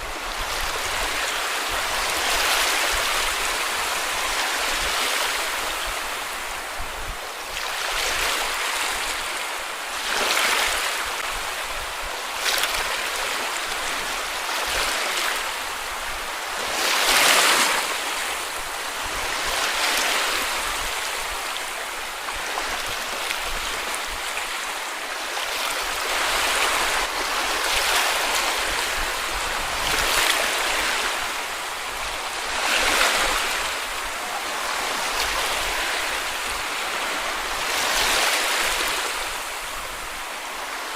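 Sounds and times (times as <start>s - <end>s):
small waves washing on beach: 0.0s - 40.9s.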